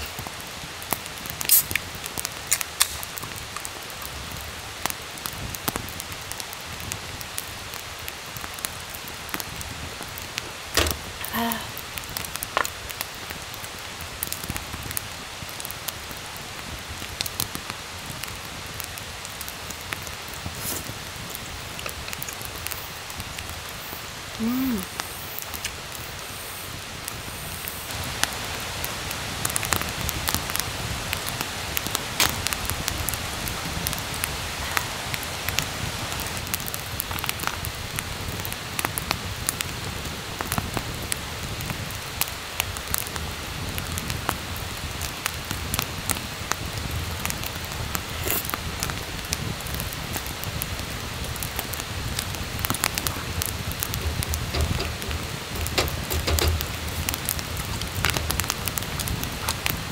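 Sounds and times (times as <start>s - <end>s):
rain on a shelter: 0.0s - 59.9s
sharp raindrop hits: 0.0s - 59.9s.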